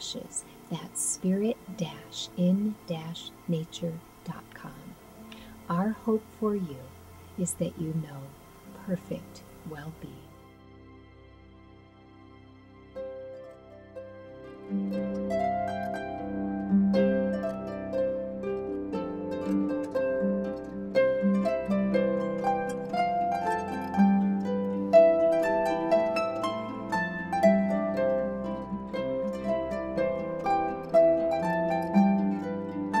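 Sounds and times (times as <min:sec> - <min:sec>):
harp-like plucked-string music: 0:00.0 - 0:11.8, 0:12.5 - 0:33.0.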